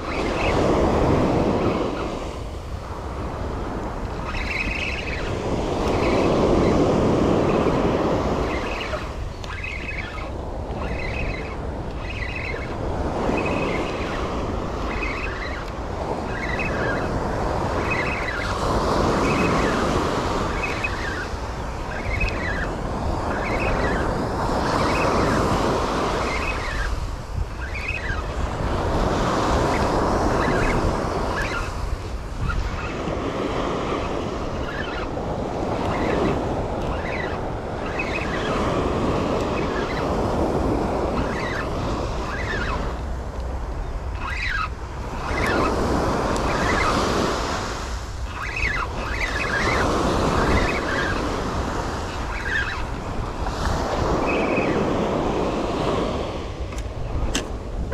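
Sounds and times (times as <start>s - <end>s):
ocean surf breaking on beach: 0.0s - 57.9s
wind rumbling on microphone: 0.0s - 57.9s.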